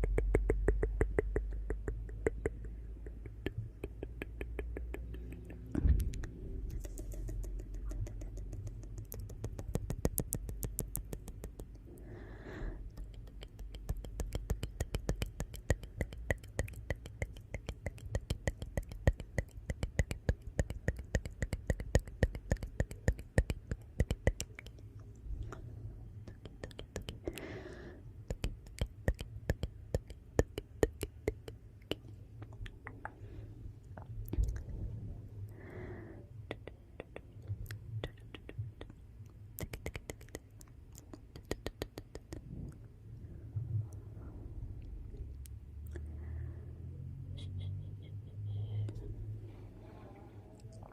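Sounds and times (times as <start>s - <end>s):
low steady rumble: 0.0s - 50.9s.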